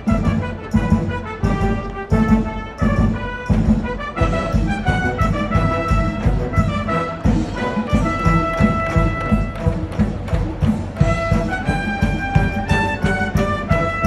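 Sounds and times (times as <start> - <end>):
brass playing marching tune: 0.0 - 14.0
steady drum beat: 0.0 - 14.0.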